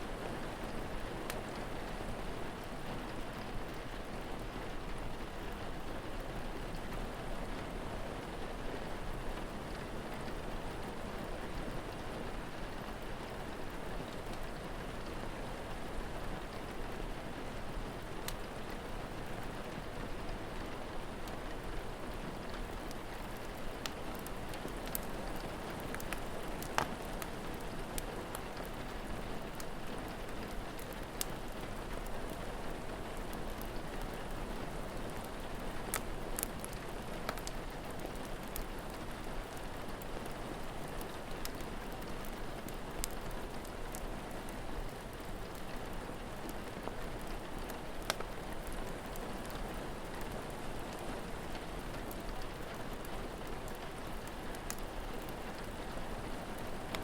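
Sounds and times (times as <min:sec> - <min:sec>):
rain falling: 0:00.0 - 0:57.0
wood fire crackling and popping: 0:00.3 - 0:08.3, 0:08.9 - 0:57.0.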